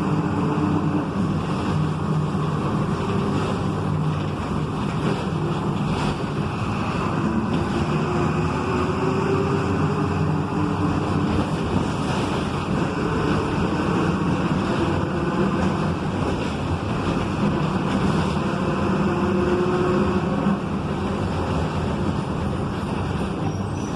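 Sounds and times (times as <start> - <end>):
bus transmission droning: 0.0 - 23.9
road and wind noise: 0.0 - 23.9.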